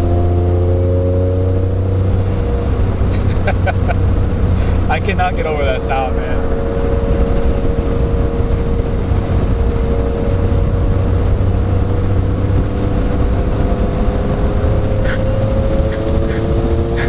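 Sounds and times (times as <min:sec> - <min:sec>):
car engine droning: 0:00.0 - 0:17.0
low road rumble: 0:00.0 - 0:17.0.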